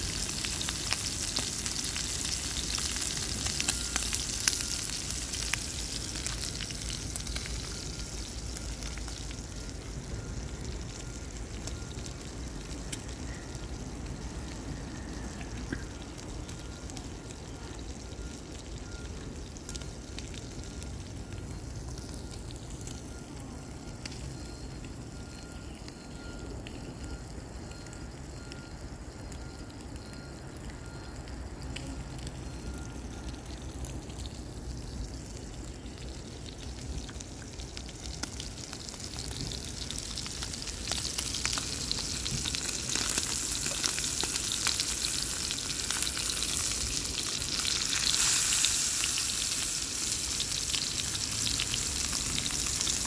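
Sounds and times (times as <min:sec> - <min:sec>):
steak sizzling in a frying pan: 0:00.0 - 0:24.7, 0:32.1 - 0:53.0.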